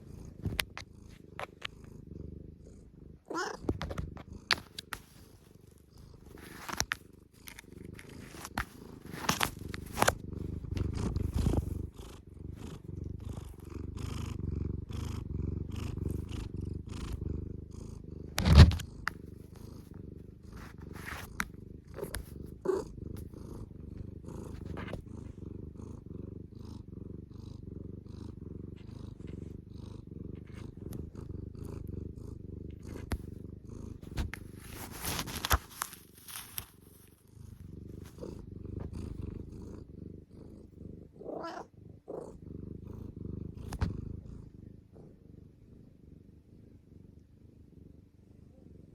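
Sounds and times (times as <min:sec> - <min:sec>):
cat purring: 0:00.0 - 0:48.9.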